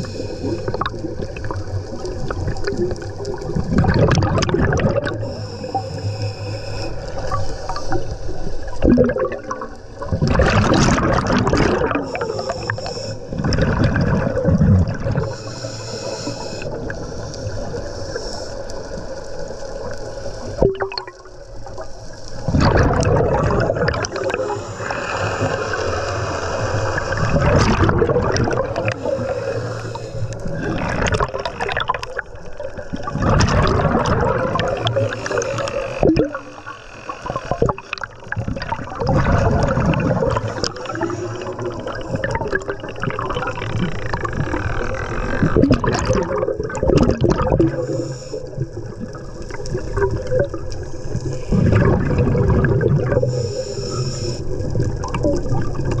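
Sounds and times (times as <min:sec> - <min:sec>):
underwater bubbles gurgling: 0:00.0 - 0:56.0.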